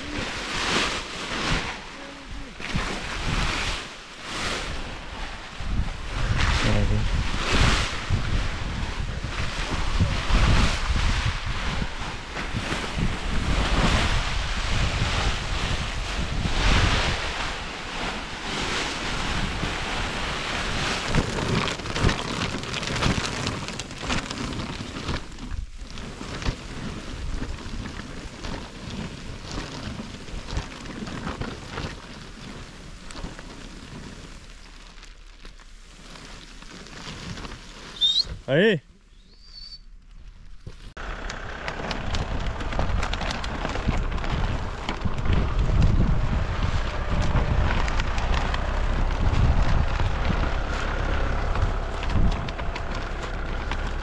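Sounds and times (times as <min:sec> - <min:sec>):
wind buffeting microphone: 0:00.0 - 0:34.0, 0:40.4 - 0:54.0
plastic film rustling and crackling: 0:00.0 - 0:38.5, 0:40.0 - 0:54.0.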